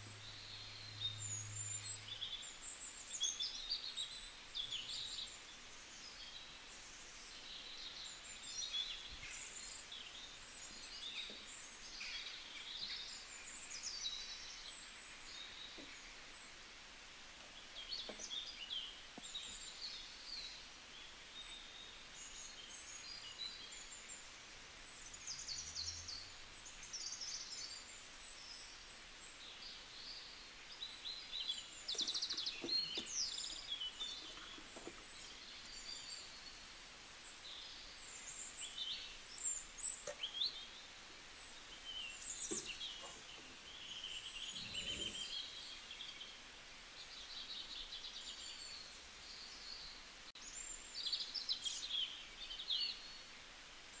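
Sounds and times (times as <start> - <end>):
faint background hiss: 0.0 - 54.0
small birds chirping: 0.0 - 54.0.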